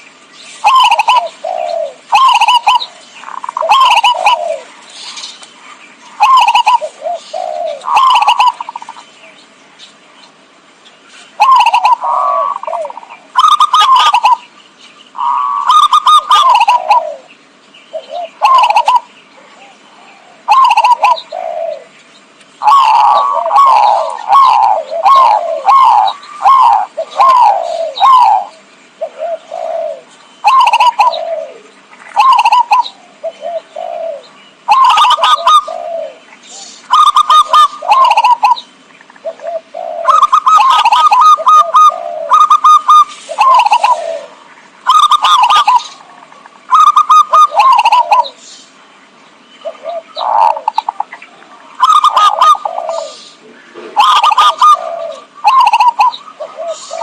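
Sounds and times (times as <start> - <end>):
doves cooing: 0.0 - 9.6, 10.3 - 57.0.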